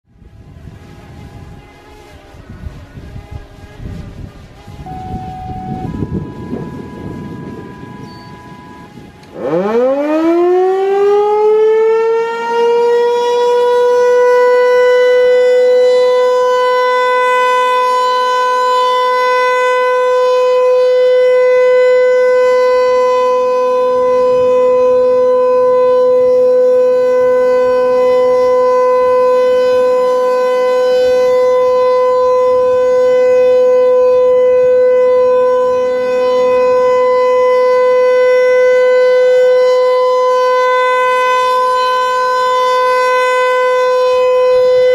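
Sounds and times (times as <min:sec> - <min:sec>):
siren steady tone: 0:00.1 - 0:44.9.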